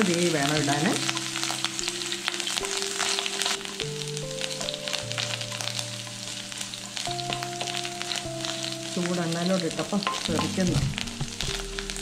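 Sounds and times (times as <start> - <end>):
food sizzling in hot oil: 0.0 - 12.0
soft background music: 0.0 - 12.0
spatula stirring in pan: 0.1 - 12.0.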